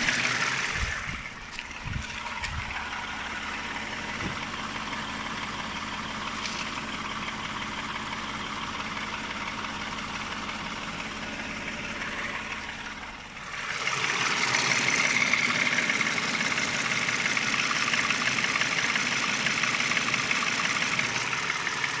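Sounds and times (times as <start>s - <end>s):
car engine idling with knock: 0.0s - 22.0s.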